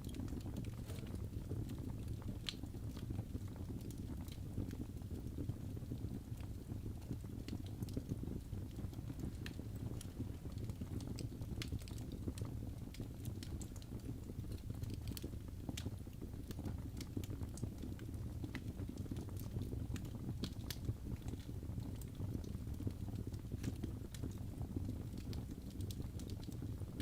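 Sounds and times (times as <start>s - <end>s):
low rumble of fire: 0.0s - 27.0s
wood fire crackling: 0.0s - 27.0s.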